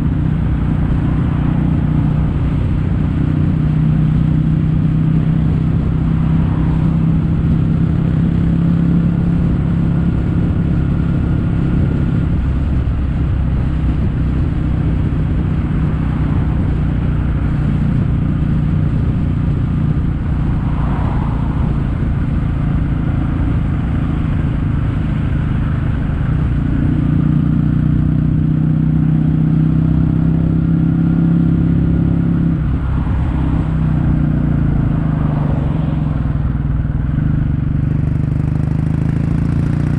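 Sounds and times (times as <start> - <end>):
motorcycle exhaust at steady cruise: 0.0 - 39.9.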